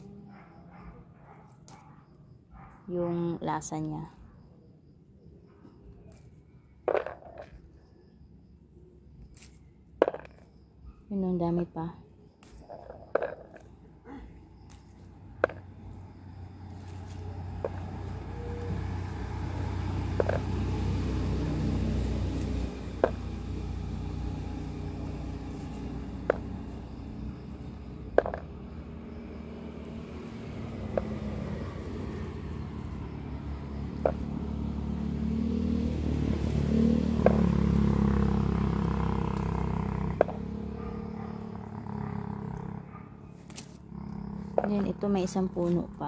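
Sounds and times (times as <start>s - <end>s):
vehicle engine rumble: 5.7s - 46.0s.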